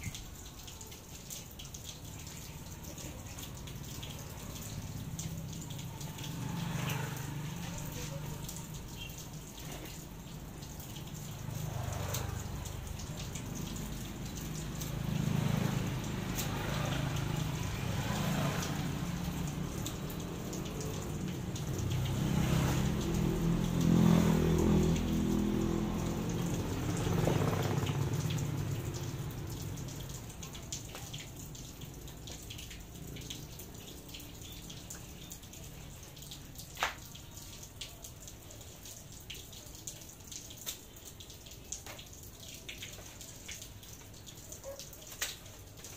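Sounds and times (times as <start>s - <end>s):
rain dripping on tiles: 0.0s - 45.9s.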